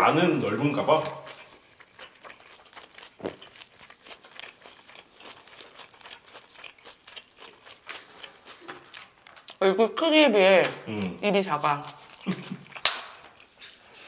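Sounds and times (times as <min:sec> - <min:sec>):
person chewing with wet crunches: 0:00.0 - 0:14.0.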